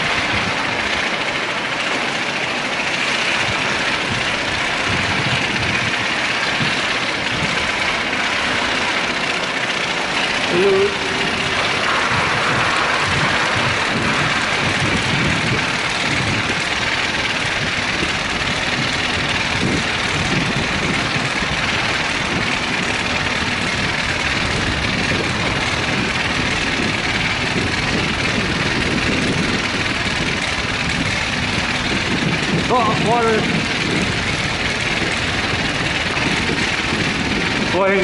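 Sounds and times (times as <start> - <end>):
rushing noise of riding: 0.0 - 38.0.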